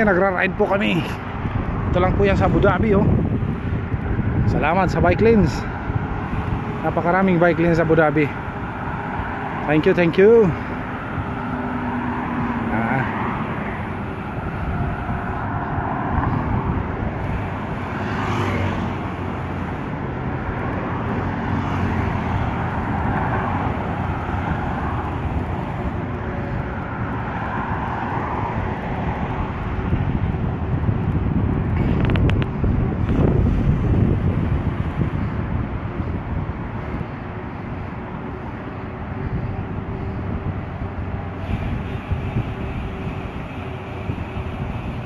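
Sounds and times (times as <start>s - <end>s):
rushing wind on microphone: 0.0s - 45.0s.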